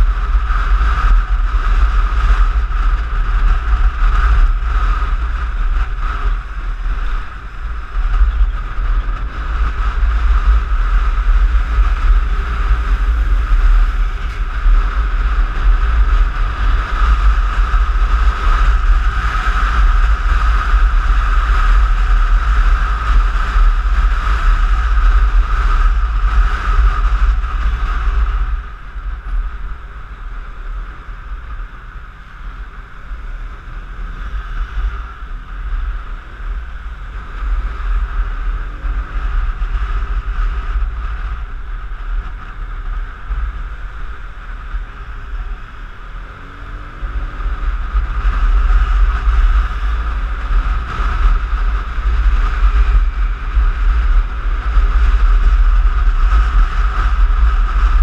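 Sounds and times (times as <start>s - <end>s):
scooter engine running: 0.0s - 58.0s
wind buffeting microphone: 0.0s - 58.0s.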